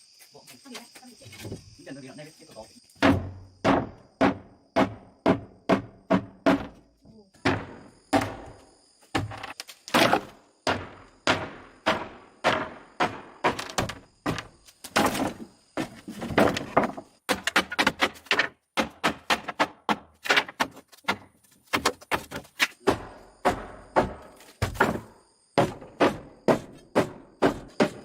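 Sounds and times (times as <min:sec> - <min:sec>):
knocks and thuds: 0:03.0 - 0:28.0.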